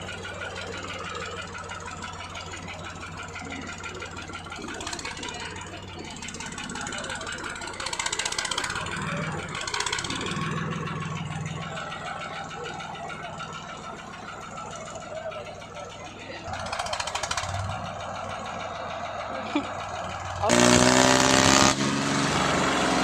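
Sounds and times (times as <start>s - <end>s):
tractor diesel engine revving: 0.0s - 23.0s.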